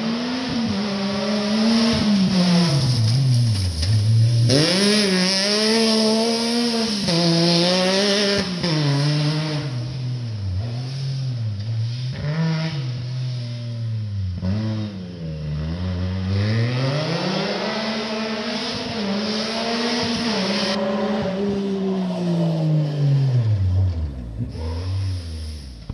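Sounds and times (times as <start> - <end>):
engine revving: 0.0 - 25.9.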